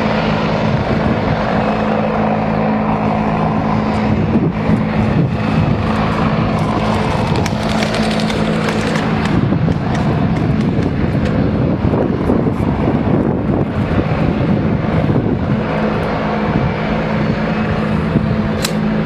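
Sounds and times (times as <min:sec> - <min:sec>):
helicopter rotor and turbine noise: 0:00.0 - 0:19.0.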